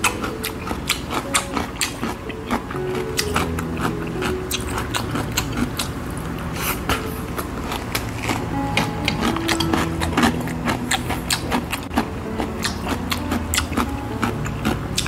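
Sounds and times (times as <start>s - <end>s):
person chewing noodles: 0.0s - 15.0s.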